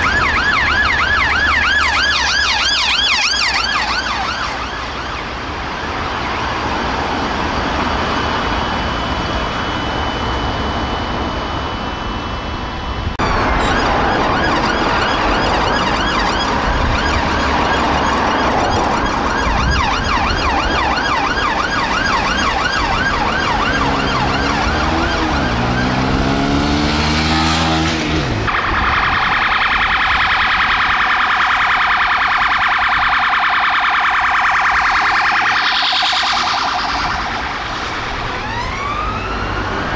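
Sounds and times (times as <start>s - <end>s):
police sirens wailing: 0.0s - 39.9s.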